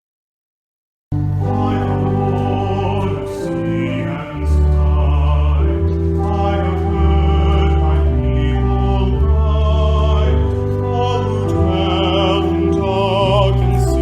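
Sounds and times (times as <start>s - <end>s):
slow church music: 1.1s - 14.0s.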